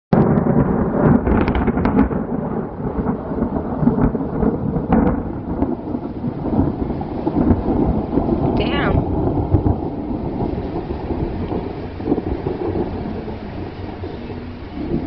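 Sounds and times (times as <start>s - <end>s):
sharp crackles: 0.2s - 15.0s
thunder rumbling: 0.2s - 15.0s.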